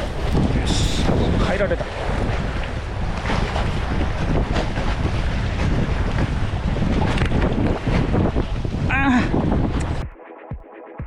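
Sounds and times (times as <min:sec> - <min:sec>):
seawater washing against breakwater: 0:00.0 - 0:10.0
wind buffeting microphone: 0:00.0 - 0:10.1.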